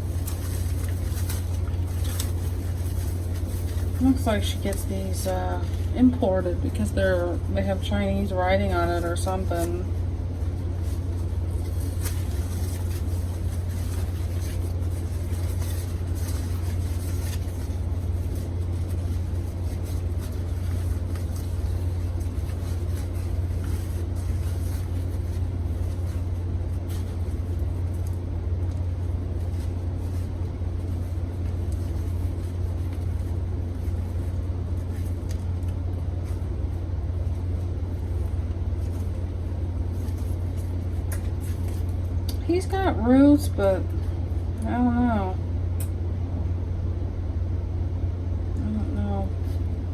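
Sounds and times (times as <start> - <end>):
faint clicks and rustles: 0.0 - 44.9
steady low hum: 0.0 - 49.9.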